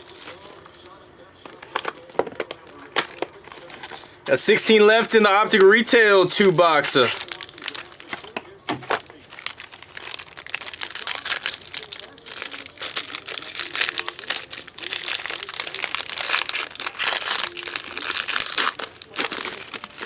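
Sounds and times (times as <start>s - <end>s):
plastic card wrappers crinkling: 0.0s - 20.0s.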